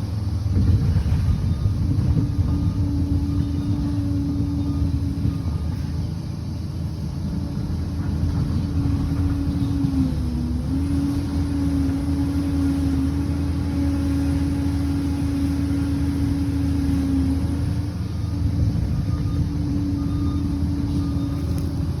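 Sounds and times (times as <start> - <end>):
diesel engine rumbling: 0.0 - 22.0
engine whine: 0.0 - 22.0.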